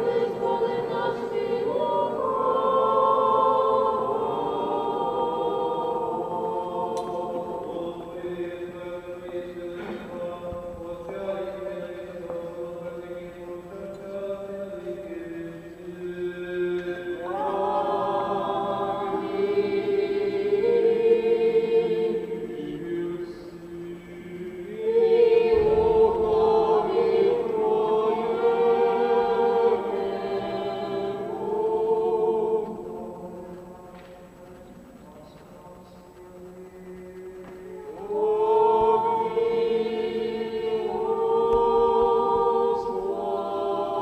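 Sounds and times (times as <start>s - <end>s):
congregation singing a chant: 0.0s - 44.0s.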